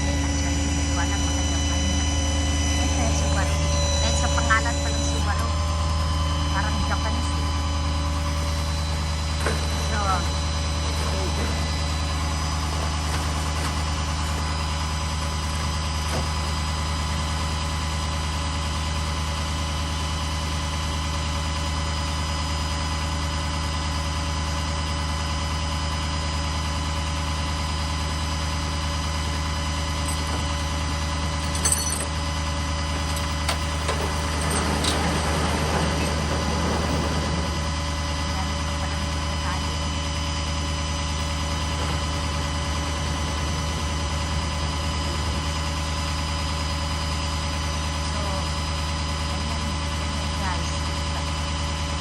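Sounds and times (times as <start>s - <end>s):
vehicle engine idling: 0.0s - 52.0s.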